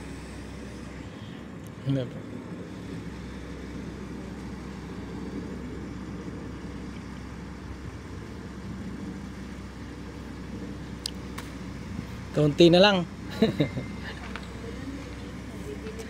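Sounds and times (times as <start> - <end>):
diesel engine humming: 0.0 - 16.0.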